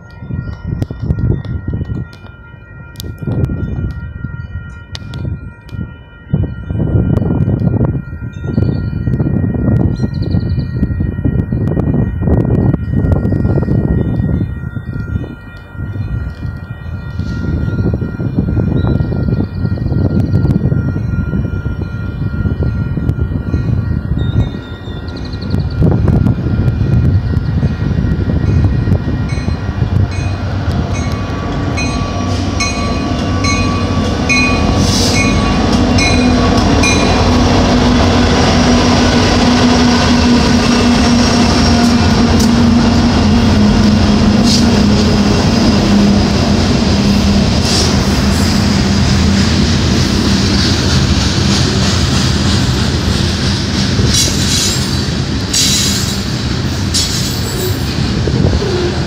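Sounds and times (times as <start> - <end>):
crossing bell ringing: 0.0 - 59.0
diesel locomotive drone: 0.0 - 59.0
train wheels rumbling and squealing: 0.0 - 59.0.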